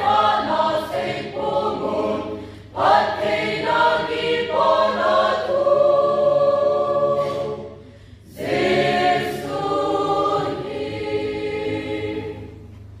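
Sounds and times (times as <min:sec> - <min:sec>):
mixed choir singing: 0:00.0 - 0:12.8.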